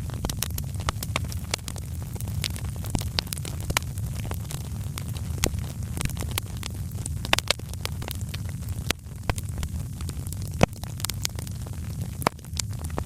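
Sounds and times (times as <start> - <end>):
fire crackling and popping: 0.0 - 13.0
fire rumbling: 0.0 - 13.0.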